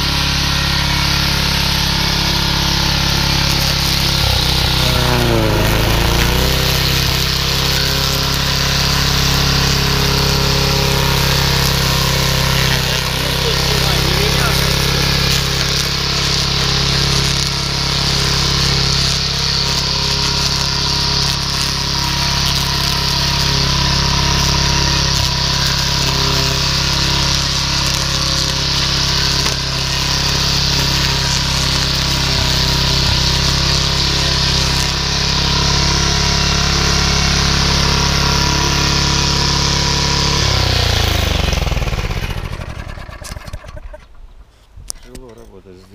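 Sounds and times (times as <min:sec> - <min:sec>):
lawn mower engine running: 0:00.0 - 0:44.7.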